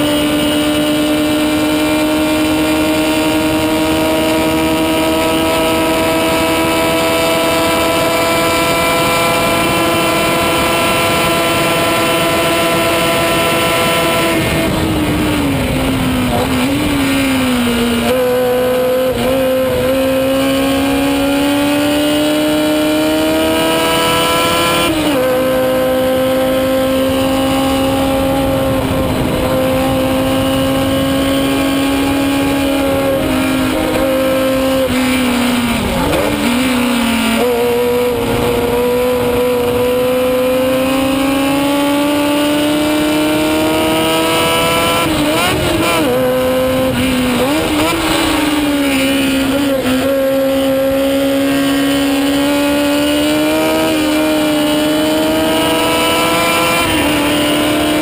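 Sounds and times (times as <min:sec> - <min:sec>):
racing car engine at high revs: 0:00.0 - 0:58.0.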